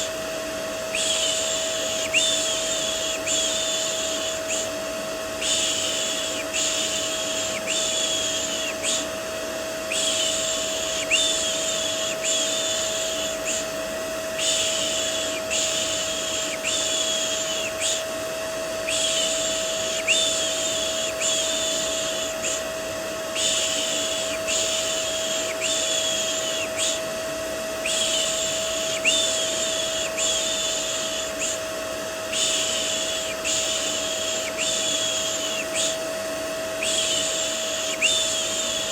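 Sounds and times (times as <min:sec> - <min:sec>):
vacuum cleaner whine: 0:00.0 - 0:38.9
person making shh sounds: 0:01.0 - 0:04.8, 0:05.4 - 0:09.1, 0:09.9 - 0:18.1, 0:18.8 - 0:22.7, 0:23.3 - 0:27.0, 0:27.8 - 0:31.7, 0:32.3 - 0:36.0, 0:36.8 - 0:38.9.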